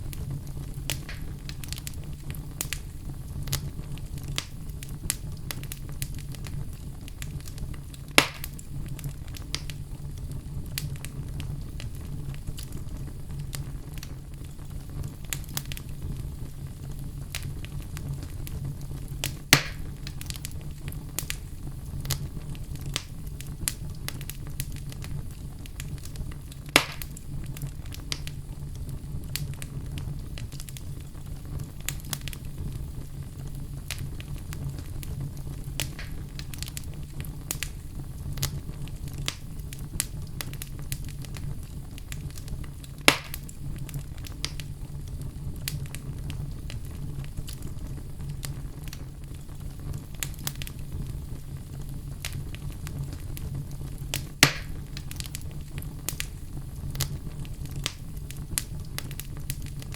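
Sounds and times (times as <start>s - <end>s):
fire pops: 0.0s - 59.9s
wood fire crackling: 0.0s - 59.9s.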